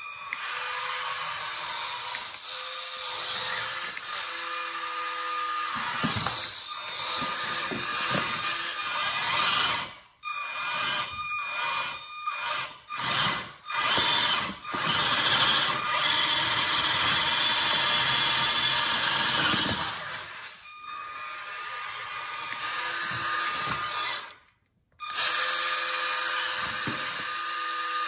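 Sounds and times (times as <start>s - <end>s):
toy truck electric motor whining: 0.0s - 28.0s.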